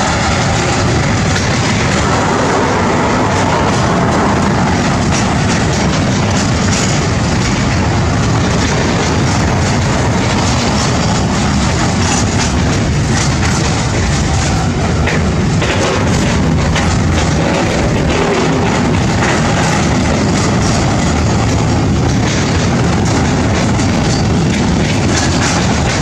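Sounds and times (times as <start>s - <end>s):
freight train rolling past: 0.0s - 26.0s.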